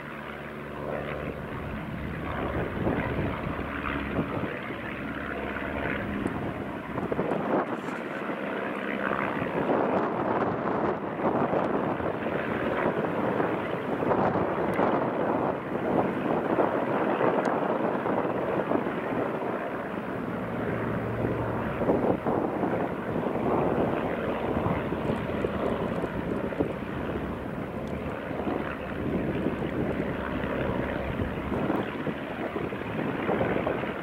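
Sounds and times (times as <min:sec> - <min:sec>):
biplane engine droning: 0:00.0 - 0:34.0
wind noise on microphone: 0:01.6 - 0:05.0, 0:05.8 - 0:08.4, 0:09.1 - 0:34.0.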